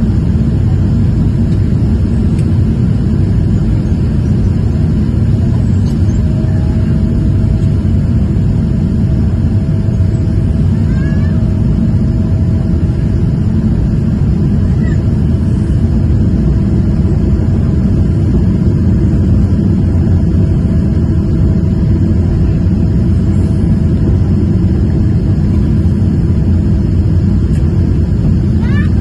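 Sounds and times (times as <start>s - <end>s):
airliner engines rumbling: 0.0s - 29.0s.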